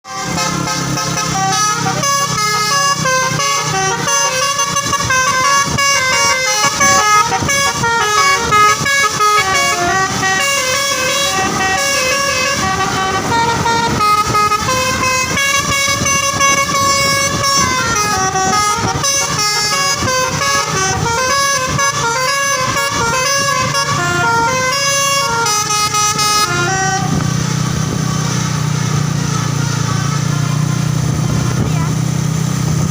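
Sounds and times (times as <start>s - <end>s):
bus engine rumble: 0.0s - 32.9s
multi-tone bus horn melody: 0.0s - 32.9s.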